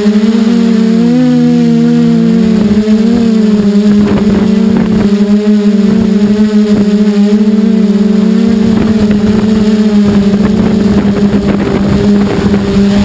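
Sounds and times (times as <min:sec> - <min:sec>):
quadcopter propellers humming: 0:00.0 - 0:13.0.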